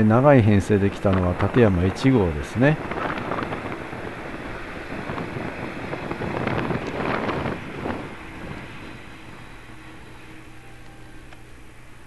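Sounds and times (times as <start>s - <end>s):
wind buffeting microphone: 0.0s - 10.5s
train running past: 0.0s - 12.0s.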